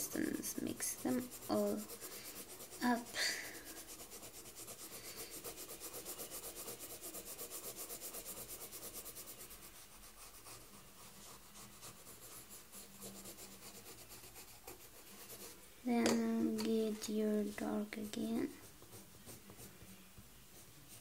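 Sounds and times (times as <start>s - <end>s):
colored pencil shading on paper: 0.0s - 21.0s.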